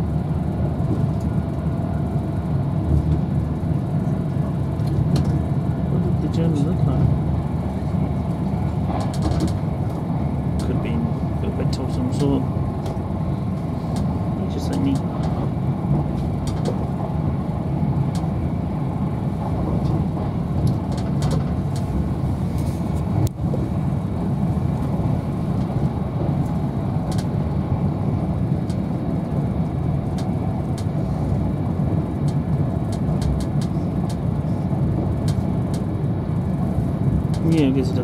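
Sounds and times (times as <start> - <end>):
train interior rumble: 0.0 - 38.0.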